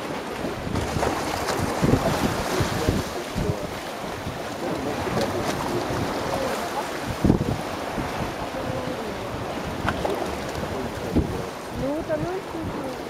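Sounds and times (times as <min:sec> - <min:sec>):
waves splashing on rocky shore: 0:00.0 - 0:13.0
wind buffeting the microphone: 0:00.0 - 0:13.0.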